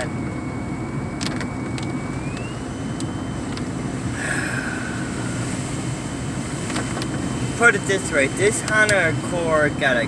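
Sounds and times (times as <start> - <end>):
car engine rumble: 0.0 - 10.0
thin whine rising in pitch: 0.0 - 10.0.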